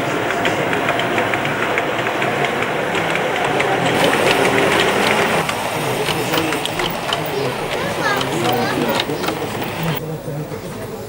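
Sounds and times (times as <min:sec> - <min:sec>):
model train motor hum: 0:00.0 - 0:11.0
wheels clicking on rails: 0:00.0 - 0:11.0.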